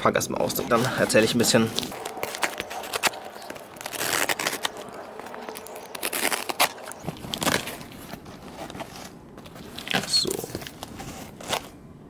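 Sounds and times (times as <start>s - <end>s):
packing tape tearing and crinkling: 0.7s - 11.8s.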